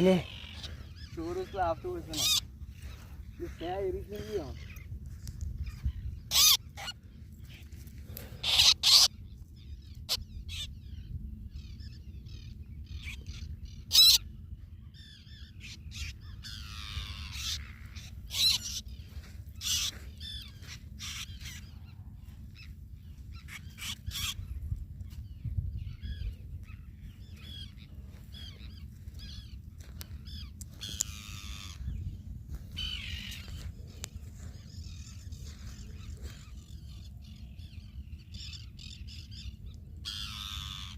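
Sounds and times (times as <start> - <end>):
seabirds calling: 0.0 - 40.9.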